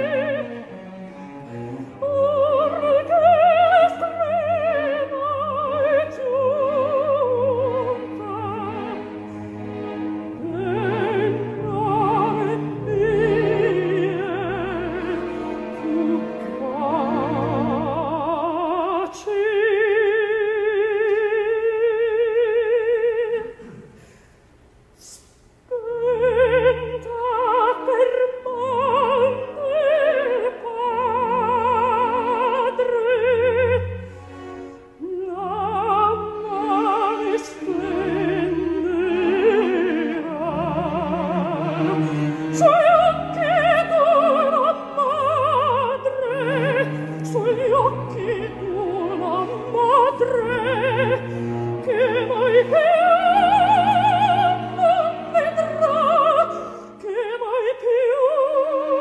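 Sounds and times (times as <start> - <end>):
soprano singing opera: 0.0 - 9.2, 10.3 - 23.8, 25.7 - 34.1, 35.0 - 59.0
orchestra playing: 0.0 - 18.7, 26.1 - 58.1.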